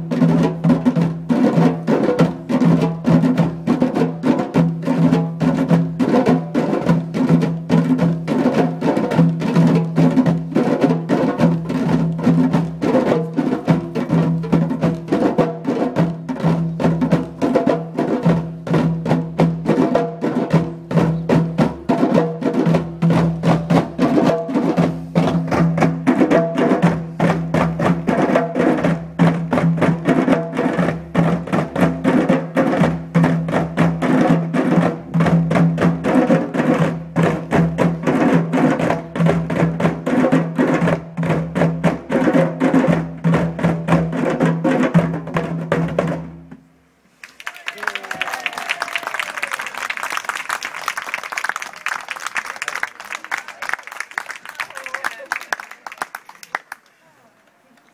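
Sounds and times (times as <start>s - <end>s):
djembes drumming fast rhythm: 0.0s - 46.6s.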